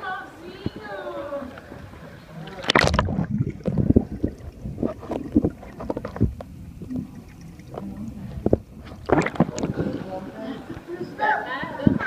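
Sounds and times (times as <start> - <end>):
water splashing and sloshing: 0.6 - 11.1.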